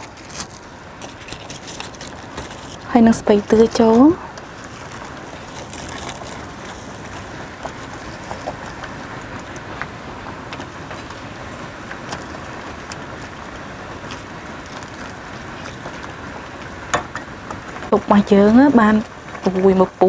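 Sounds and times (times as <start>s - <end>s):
soup boiling and bubbling: 0.0s - 20.0s.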